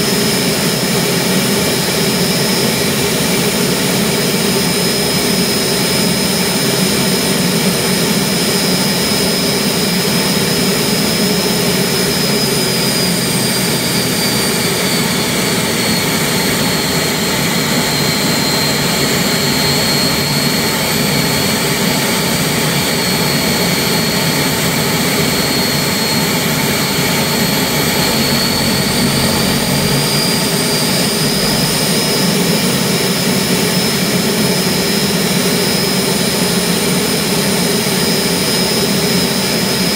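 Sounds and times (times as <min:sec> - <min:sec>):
gas turbine engine roar and whine: 0:00.0 - 0:39.9.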